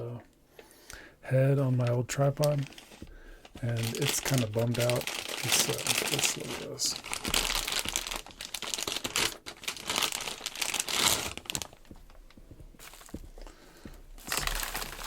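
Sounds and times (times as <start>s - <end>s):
packaging crinkling and rustling: 1.6s - 15.0s.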